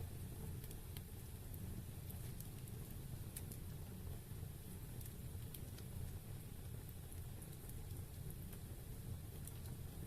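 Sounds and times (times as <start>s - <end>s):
low rumble of flames: 0.0s - 10.0s
wood crackles and pops: 0.0s - 10.0s.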